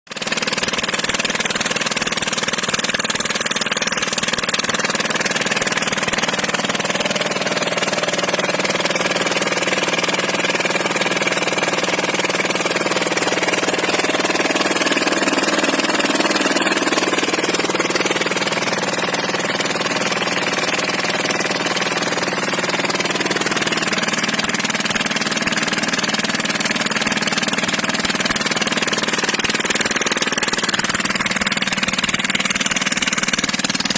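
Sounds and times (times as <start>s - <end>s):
small diesel engine running: 0.1s - 33.9s.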